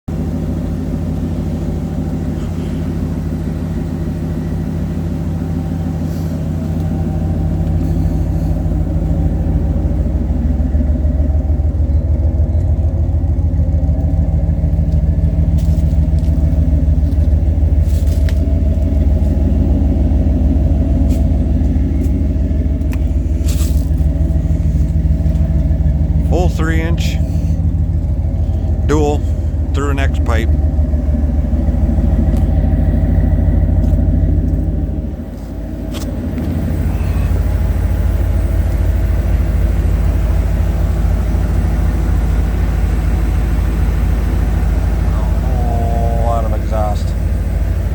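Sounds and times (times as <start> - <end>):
deep engine rumble: 0.0 - 47.9.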